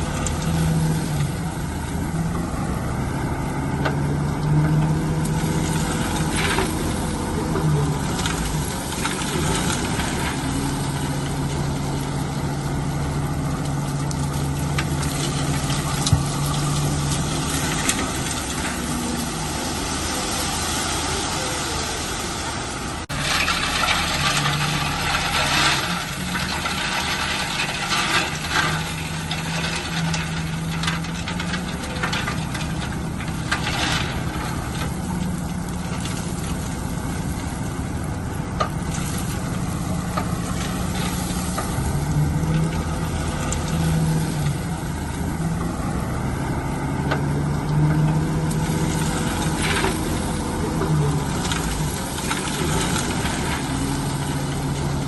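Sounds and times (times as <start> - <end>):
heavy diesel engine working: 0.0 - 55.0.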